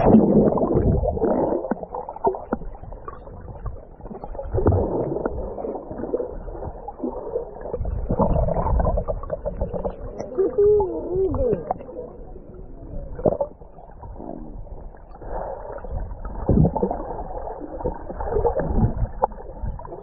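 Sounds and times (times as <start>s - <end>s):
underwater water bubbling: 0.0s - 20.0s.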